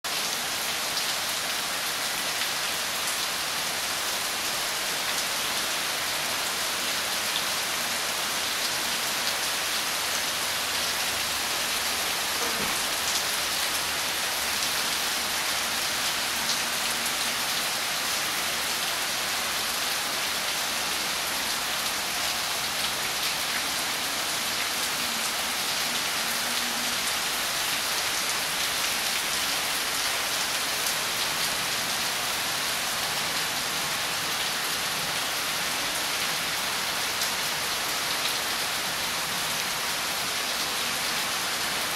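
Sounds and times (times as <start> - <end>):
heavy rain on concrete and leaves: 0.0 - 41.9.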